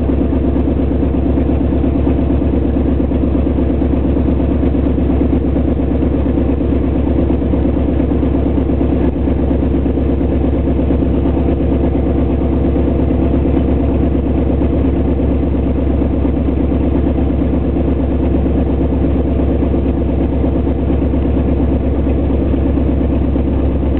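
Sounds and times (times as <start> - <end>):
propeller plane engine running: 0.0 - 23.9.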